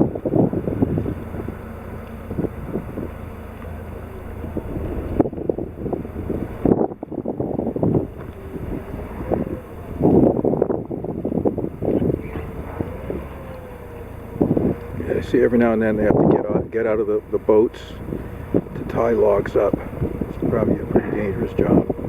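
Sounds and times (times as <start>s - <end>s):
boat engine drone: 0.0s - 22.0s
wind buffeting microphone: 0.0s - 22.0s.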